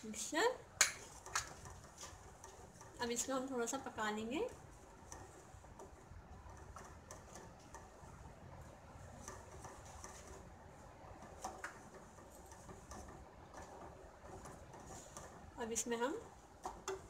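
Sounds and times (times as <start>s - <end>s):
wooden spatula stirring in metal pan: 1.0s - 17.0s.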